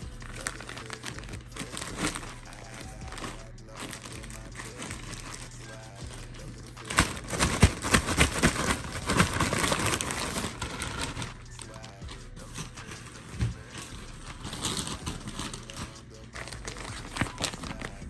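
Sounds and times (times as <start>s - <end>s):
packaging crinkling: 0.0s - 18.0s.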